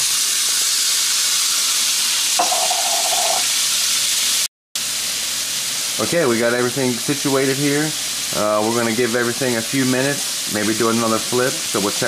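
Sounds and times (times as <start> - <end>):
green beans sizzling in skillet: 0.0 - 12.0.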